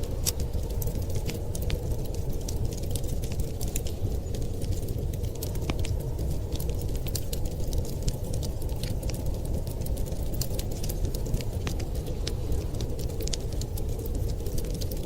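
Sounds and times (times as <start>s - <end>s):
fire low rumble: 0.0s - 15.0s
fire popping and snapping: 0.0s - 15.0s.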